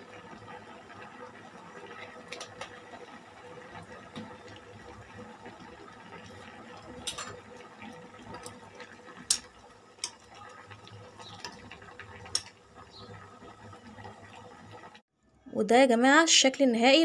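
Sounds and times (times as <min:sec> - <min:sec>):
stew bubbling in a pot: 0:00.0 - 0:15.1.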